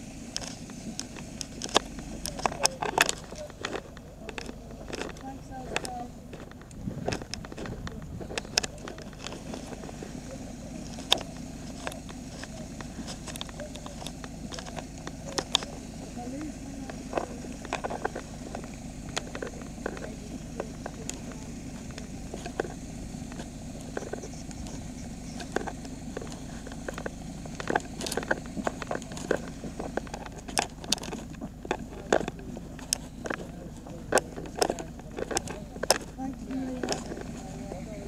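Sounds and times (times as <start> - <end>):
heavy truck engine running: 0.0 - 38.0
sharp clicks and knocks: 0.0 - 38.0.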